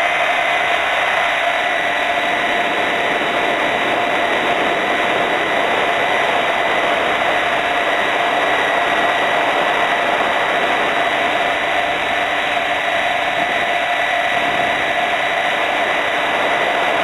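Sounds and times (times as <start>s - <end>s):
model helicopter motor and rotor: 0.0s - 17.0s.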